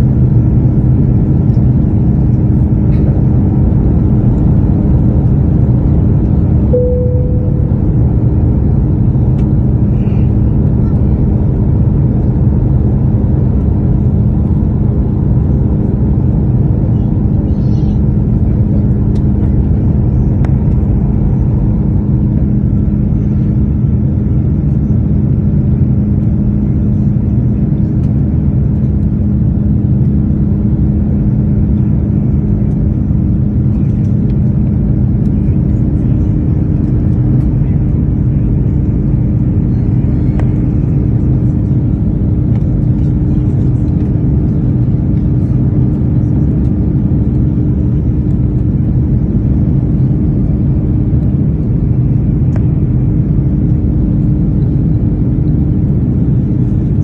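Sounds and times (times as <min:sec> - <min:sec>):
jet engines at climb power: 0:00.0 - 0:57.0
steady low hum: 0:00.0 - 0:57.0.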